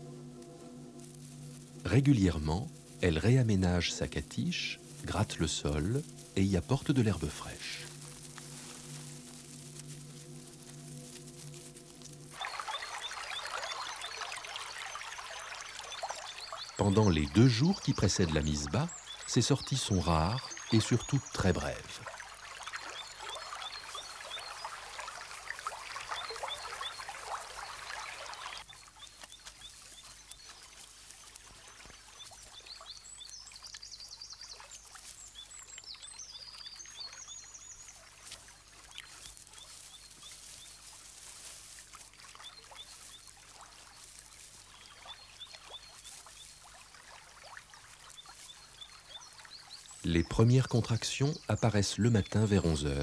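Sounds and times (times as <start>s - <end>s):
small birds chirping: 1.0s - 53.0s
water trickling: 1.0s - 53.0s.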